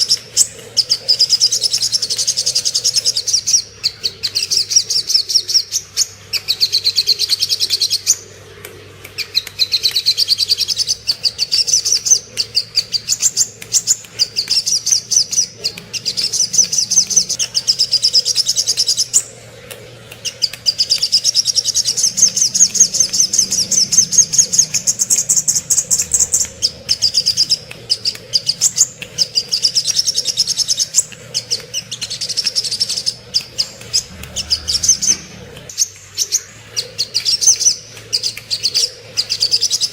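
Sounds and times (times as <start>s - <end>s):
bird singing rapid chipping notes: 0.0s - 8.2s, 9.2s - 39.9s.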